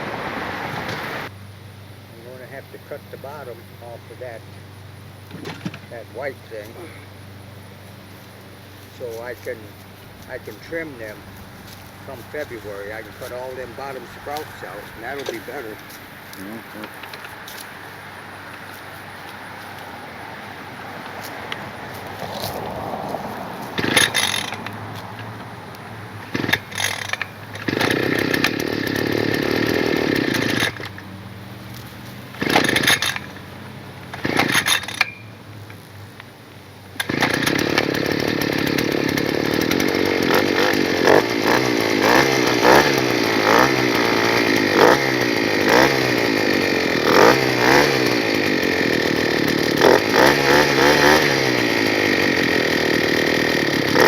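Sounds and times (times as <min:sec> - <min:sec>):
earth auger engine revving: 0:00.0 - 0:01.4, 0:02.0 - 0:54.0.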